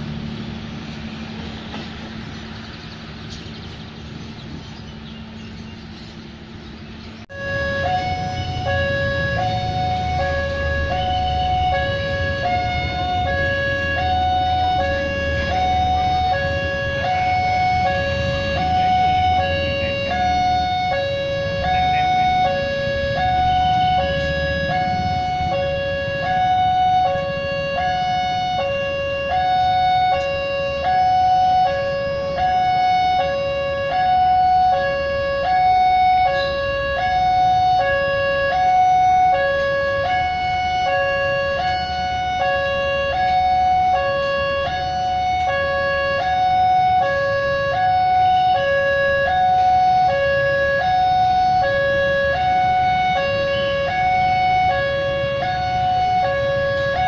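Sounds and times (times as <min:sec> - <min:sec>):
two-tone crossing warning alarm: 0:03.8 - 0:57.0.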